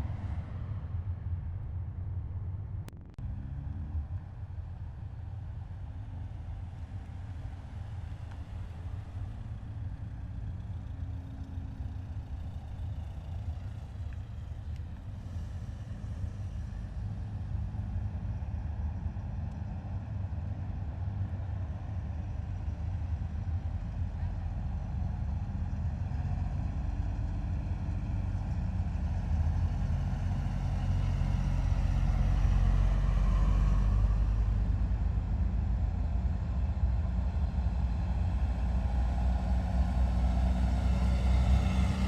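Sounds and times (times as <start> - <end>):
heavy vehicles engine rumble: 0.0 - 42.0.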